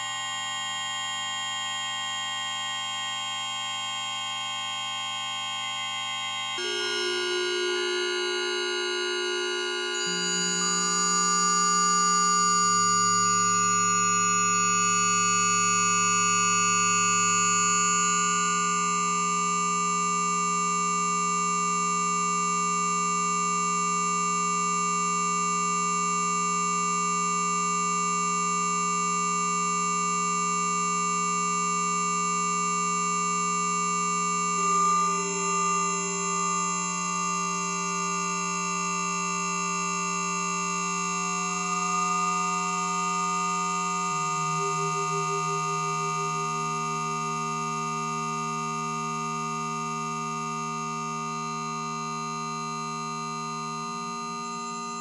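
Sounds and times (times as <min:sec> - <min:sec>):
electronic drone of sine tones: 0:00.0 - 0:55.0.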